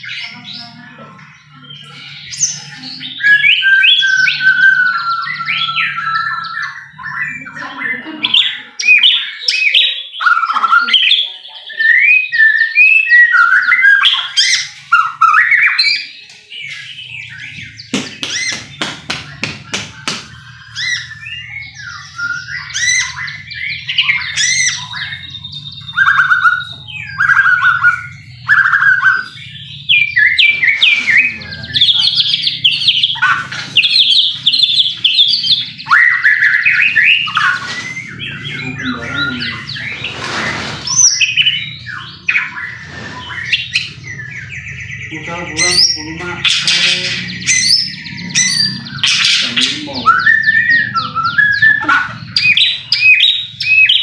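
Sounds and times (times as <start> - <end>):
bird singing whistled phrases: 1.6 - 7.8, 8.4 - 18.7, 20.5 - 40.2, 40.8 - 54.0.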